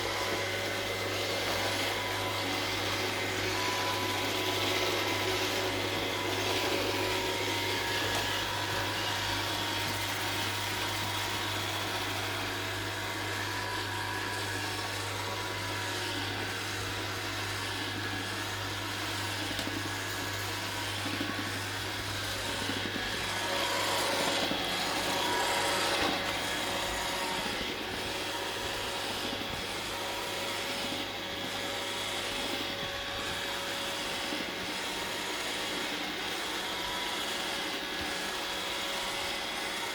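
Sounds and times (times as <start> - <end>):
robot vacuum droning: 0.0 - 39.9.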